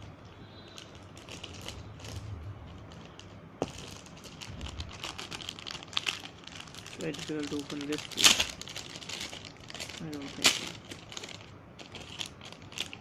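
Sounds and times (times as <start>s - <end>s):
plastic packaging crackling: 0.6s - 13.0s.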